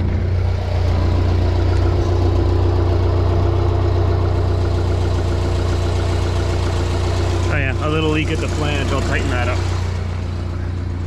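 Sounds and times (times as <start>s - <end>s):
car engine idling: 0.0s - 11.0s
exhaust leak puffing: 0.0s - 11.0s.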